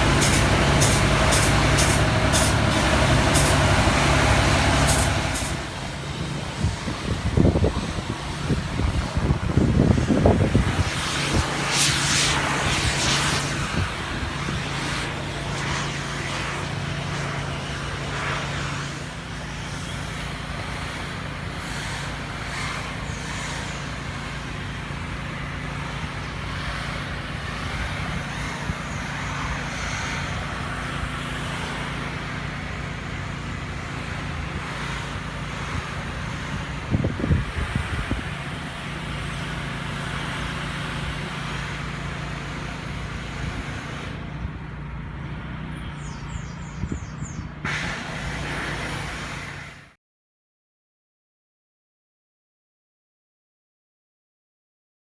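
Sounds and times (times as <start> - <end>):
engine hum: 0.0 - 49.9
street traffic: 0.0 - 49.9.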